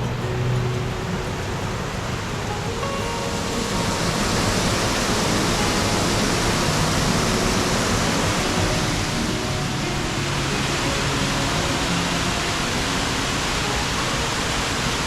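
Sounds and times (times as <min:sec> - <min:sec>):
waterfall running: 0:00.0 - 0:15.0.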